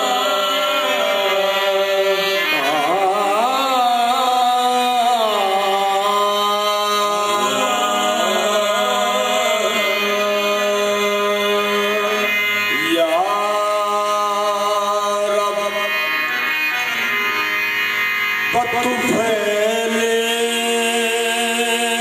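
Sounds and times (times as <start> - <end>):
man singing into microphone: 0.0 - 17.6, 18.4 - 22.0
harmonium sustained tones: 0.0 - 22.0.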